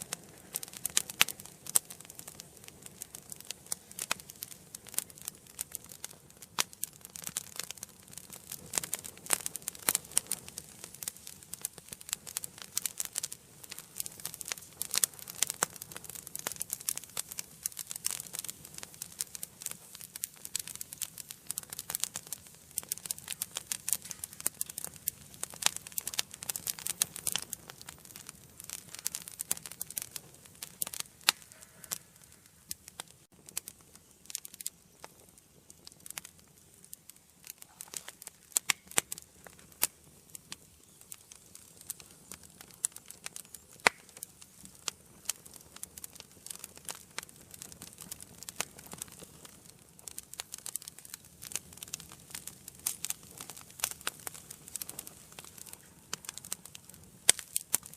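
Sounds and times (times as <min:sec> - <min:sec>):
faint steady hiss: 0:00.0 - 0:57.9
wood fire crackling: 0:00.0 - 0:57.9.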